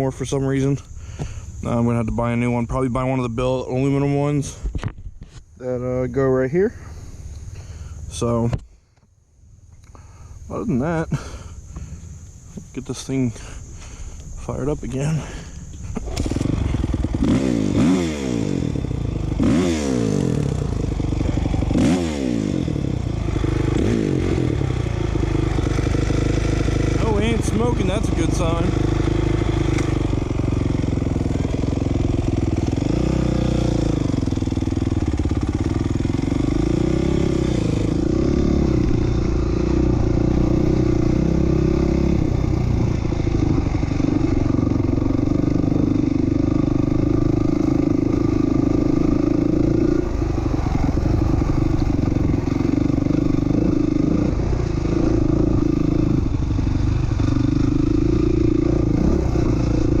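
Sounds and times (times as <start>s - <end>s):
motorcycle engine revving: 10.0s - 60.0s.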